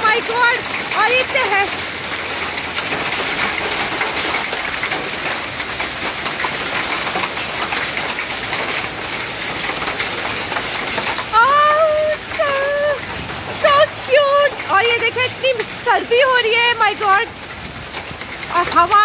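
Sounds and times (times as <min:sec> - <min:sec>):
hail falling on ground: 0:00.0 - 0:19.0.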